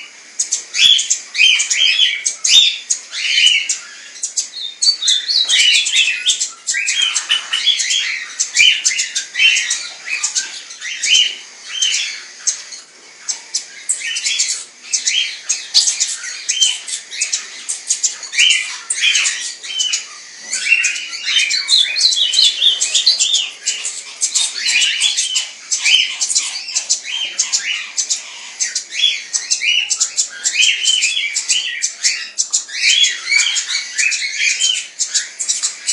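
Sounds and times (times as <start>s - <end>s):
parrots chattering and squawking: 0.0s - 35.9s.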